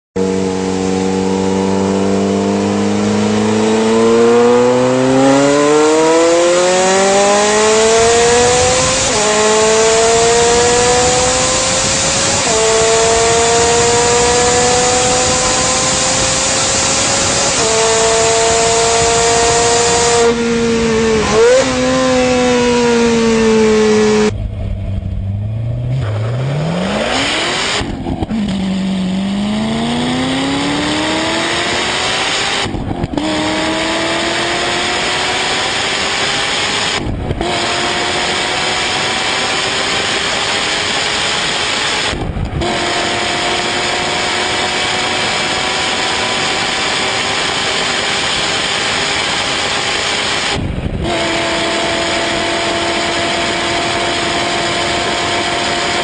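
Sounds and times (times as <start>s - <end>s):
car engine accelerating through gears: 0.2s - 56.0s.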